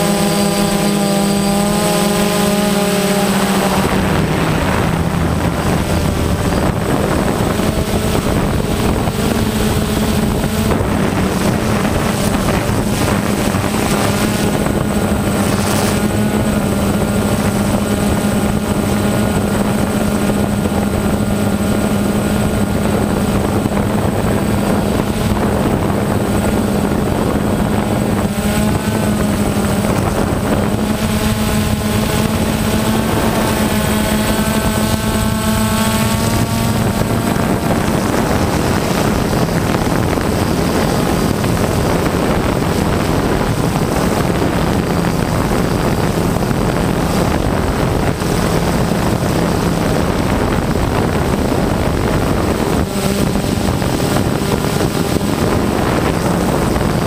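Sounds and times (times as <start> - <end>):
drone propellers humming: 0.0 - 57.0.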